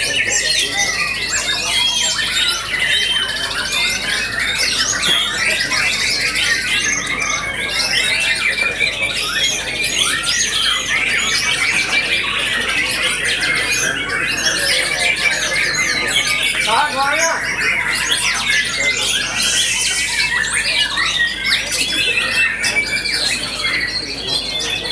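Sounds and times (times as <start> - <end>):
birds singing whistles and trills: 0.0 - 24.9.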